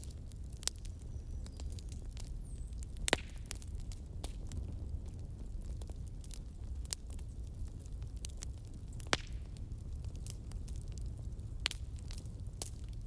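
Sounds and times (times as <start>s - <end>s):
rumble of flames: 0.0s - 13.0s
wood fire crackling: 0.0s - 13.0s.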